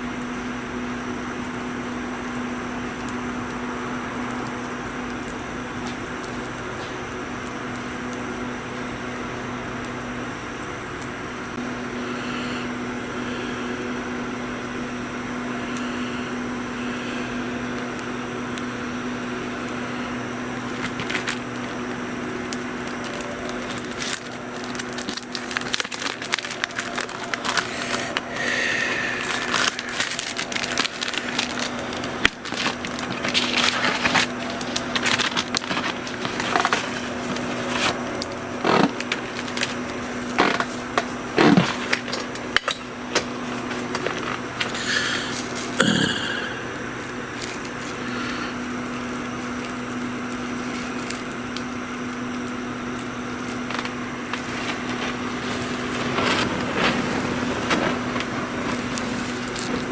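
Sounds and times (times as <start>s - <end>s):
steady hum: 0.0s - 59.9s
wood fire crackling: 0.0s - 59.9s.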